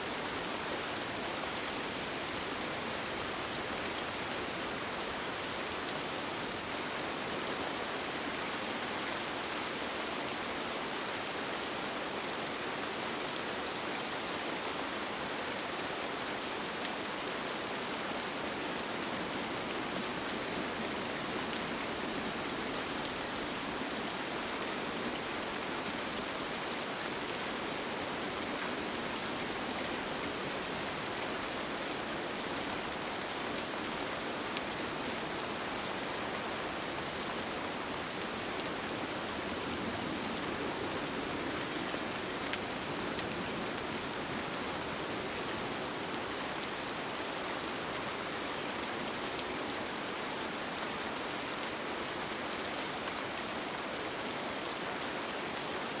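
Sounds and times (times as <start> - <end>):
rain falling on a tent: 0.0 - 56.0.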